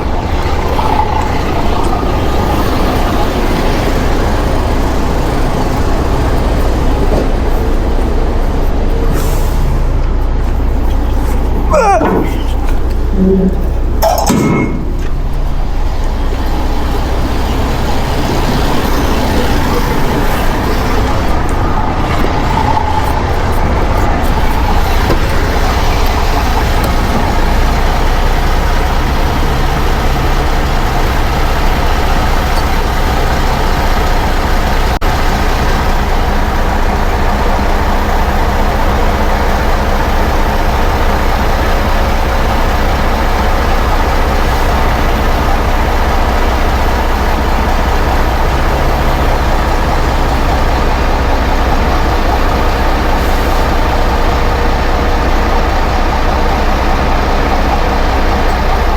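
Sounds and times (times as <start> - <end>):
truck diesel engine running: 0.0 - 58.9.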